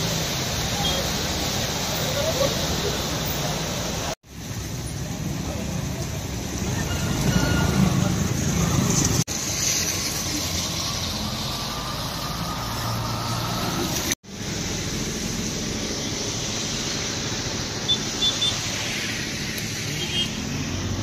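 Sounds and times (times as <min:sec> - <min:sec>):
road traffic noise: 0:00.0 - 0:21.0
water splashing: 0:00.0 - 0:21.0.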